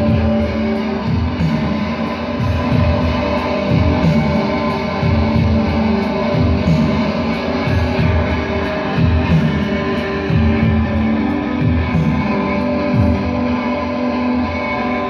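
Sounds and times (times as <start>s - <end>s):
amplified electric guitar: 0.0s - 15.0s.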